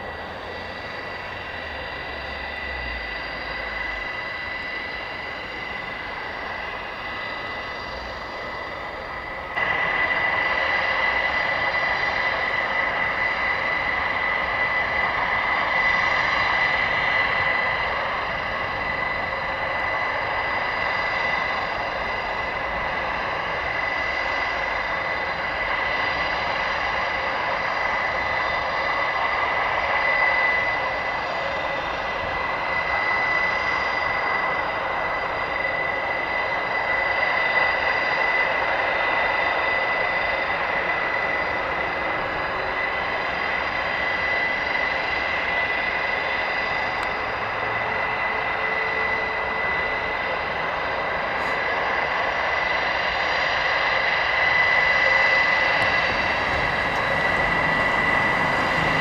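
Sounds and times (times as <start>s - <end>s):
turboprop engines whining: 0.0s - 59.0s.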